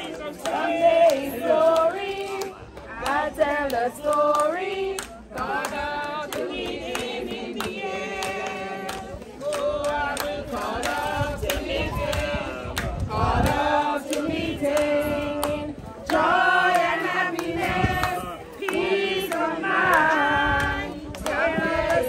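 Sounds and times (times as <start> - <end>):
crowd singing together: 0.0 - 22.0.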